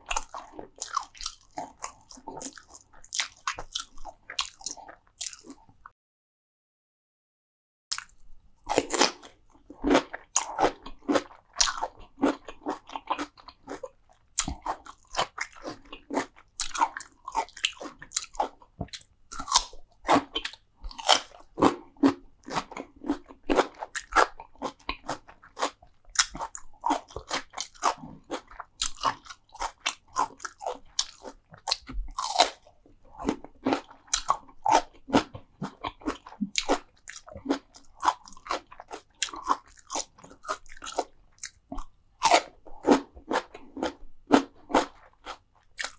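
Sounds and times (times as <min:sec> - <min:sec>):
person chewing crunchy food: 0:00.0 - 0:05.8, 0:07.9 - 0:45.9.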